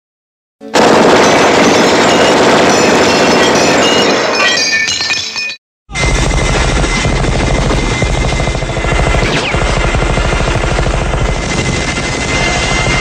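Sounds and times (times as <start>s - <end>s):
rapid automatic gunfire: 0.8s - 4.4s, 6.0s - 13.0s.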